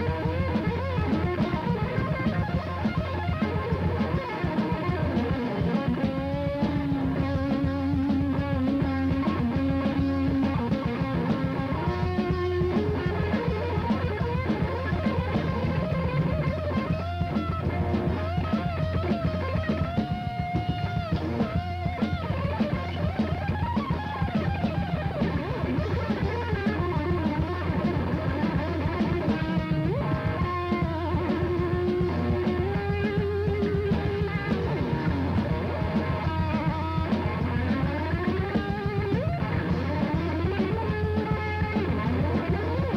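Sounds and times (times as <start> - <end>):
bass guitar: 0.0 - 42.9
busy drum kit: 0.0 - 42.9
electric guitar bent notes: 0.0 - 42.9.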